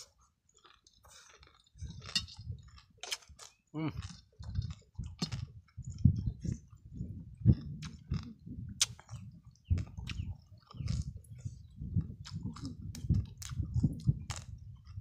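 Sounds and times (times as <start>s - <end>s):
person chewing wetly: 0.0s - 15.0s.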